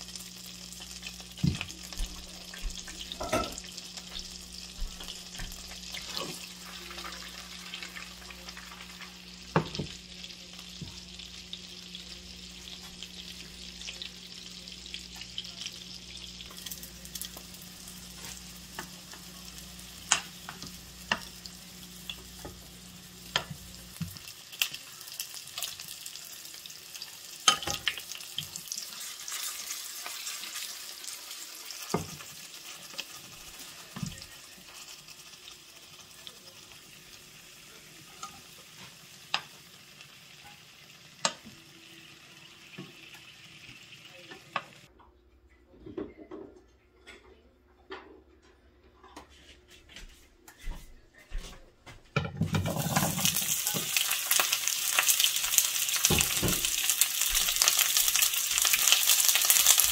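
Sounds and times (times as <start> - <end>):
potatoes sizzling in a frying pan: 0.0 - 44.9, 52.4 - 59.9.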